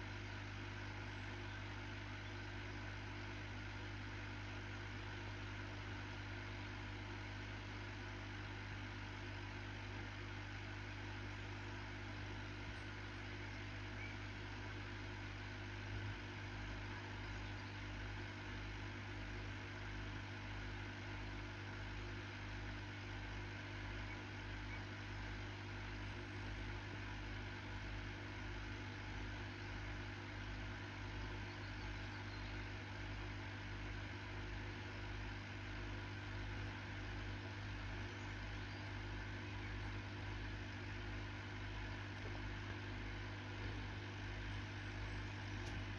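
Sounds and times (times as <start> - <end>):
aquarium equipment humming: 0.0 - 45.9.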